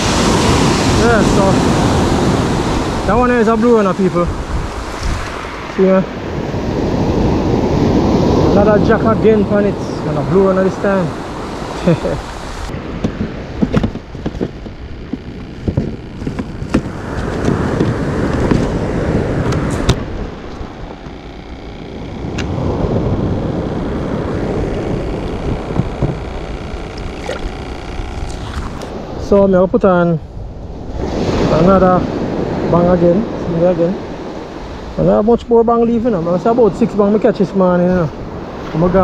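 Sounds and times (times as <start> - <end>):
surf on pebbly beach: 0.0 - 15.0, 16.0 - 39.0
wind on microphone: 0.0 - 36.8.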